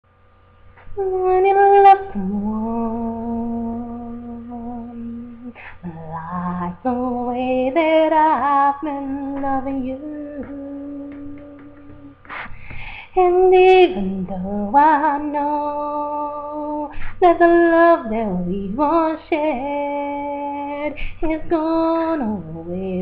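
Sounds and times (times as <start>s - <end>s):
woman singing wordless held notes: 0.8s - 23.0s.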